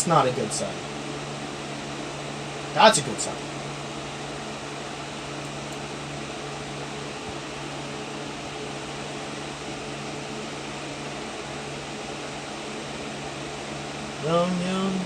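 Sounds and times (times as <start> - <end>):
electric fan whirring: 0.0 - 15.0.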